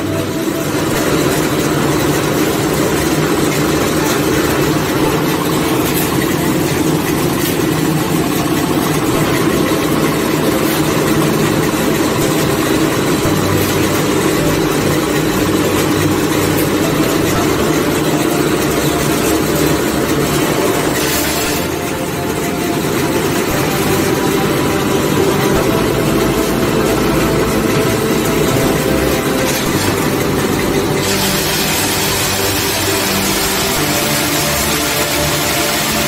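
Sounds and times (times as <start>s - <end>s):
block press machine drone: 0.0s - 36.0s.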